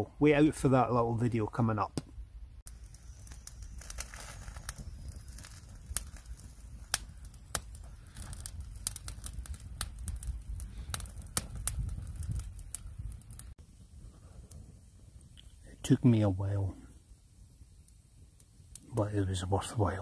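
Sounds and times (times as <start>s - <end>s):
low fire rumble: 0.0s - 20.0s
campfire crackling and popping: 0.7s - 20.0s.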